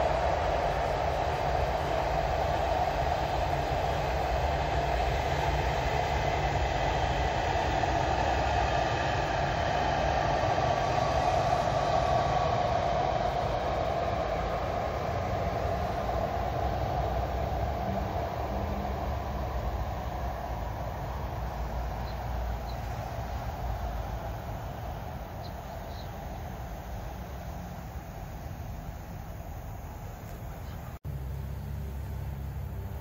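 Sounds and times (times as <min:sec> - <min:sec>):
high-speed train passing: 0:00.0 - 0:33.0.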